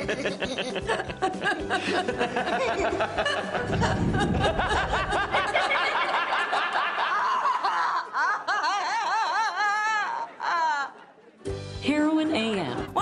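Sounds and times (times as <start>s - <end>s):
woman laughing giddily: 0.0s - 11.0s.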